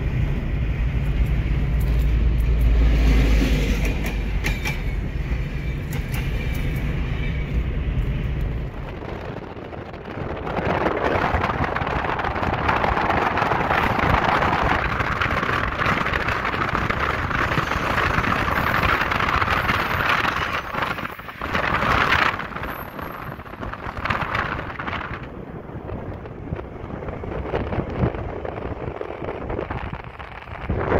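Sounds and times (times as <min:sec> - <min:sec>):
car road noise: 0:00.0 - 0:30.9
wind rush through open window: 0:00.0 - 0:30.9.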